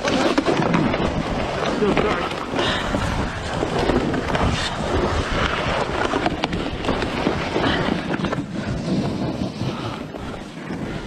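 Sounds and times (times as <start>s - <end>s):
skis scraping on snow: 0.0s - 11.0s
wind rushing over microphone: 0.0s - 11.0s.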